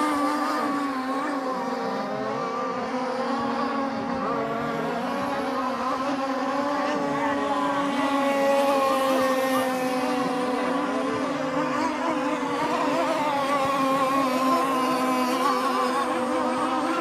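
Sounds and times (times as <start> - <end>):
motorboat engine drone: 0.0 - 17.0.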